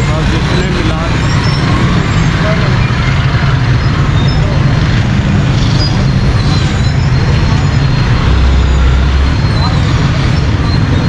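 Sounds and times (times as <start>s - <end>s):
auto-rickshaw engines running: 0.0s - 11.0s
car engines running: 0.0s - 11.0s
motorbike engines running: 0.0s - 11.0s.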